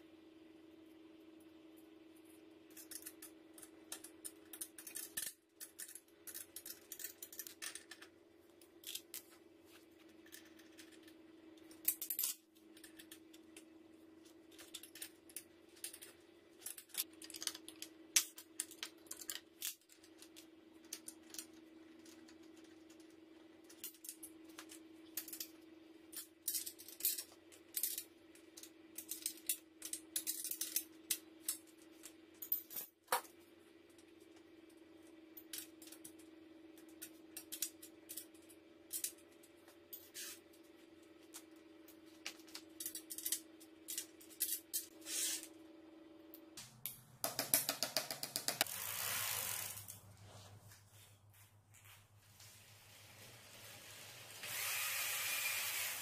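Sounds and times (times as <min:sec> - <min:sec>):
steady low hum: 0:00.0 - 0:54.6.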